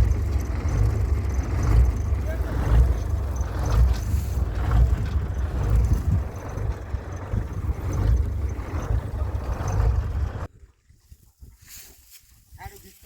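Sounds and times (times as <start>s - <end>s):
tractor engine rumbling: 0.0s - 10.5s.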